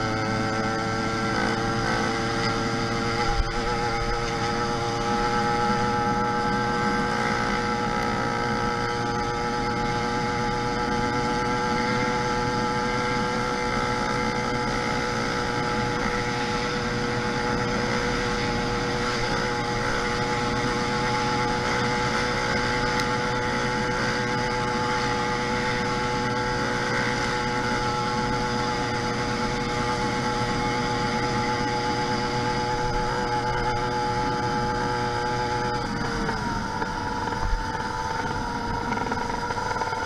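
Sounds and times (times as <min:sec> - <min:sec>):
two-stroke engine running: 0:00.0 - 0:40.0.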